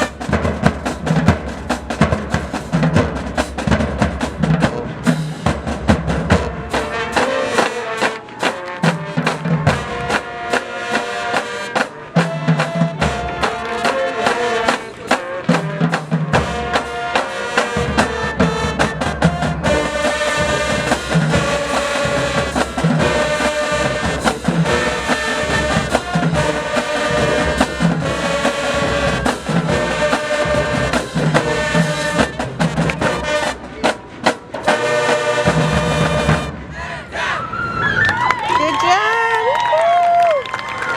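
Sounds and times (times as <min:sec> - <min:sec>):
marching band brass: 0:00.0 - 0:37.8
drumline: 0:00.0 - 0:40.9.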